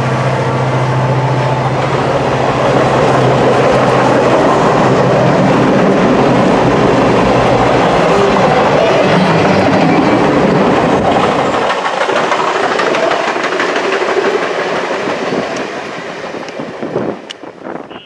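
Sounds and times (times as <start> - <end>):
train coaches rolling past: 0.0 - 18.0.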